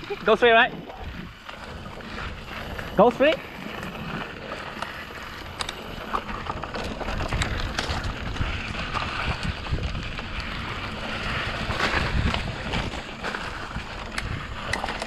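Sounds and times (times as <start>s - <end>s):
bike clicks and rattles: 0.0s - 15.0s
tyres rolling over dirt: 0.0s - 15.0s
wind rushing over microphone: 0.0s - 15.0s.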